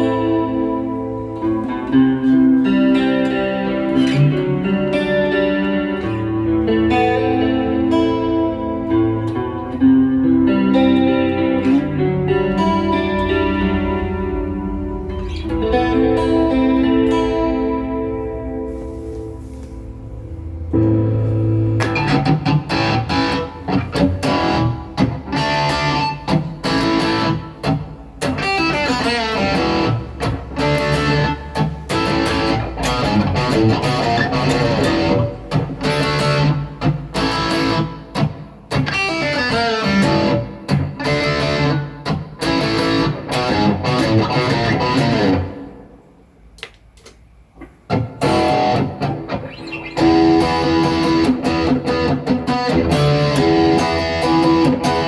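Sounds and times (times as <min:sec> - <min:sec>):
electric guitar picked notes: 0:00.0 - 0:46.2, 0:47.9 - 0:55.0.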